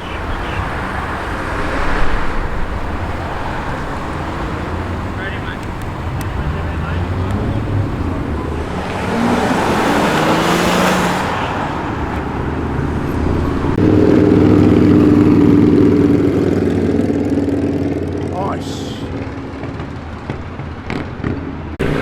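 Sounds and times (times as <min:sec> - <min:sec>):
car engine running steadily: 0:00.0 - 0:22.0
cars passing: 0:00.0 - 0:22.0.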